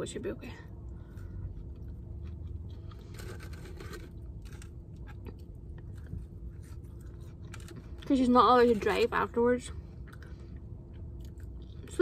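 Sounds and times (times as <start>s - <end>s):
low steady hum: 0.0s - 12.0s
chewing fries: 1.1s - 9.0s, 9.9s - 12.0s.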